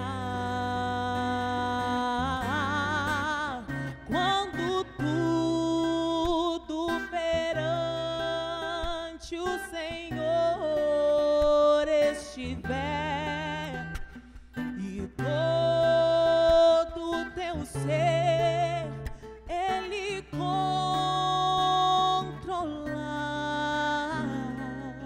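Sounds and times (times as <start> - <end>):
acoustic guitar: 0.0 - 25.0
woman singing with vibrato: 0.0 - 25.0.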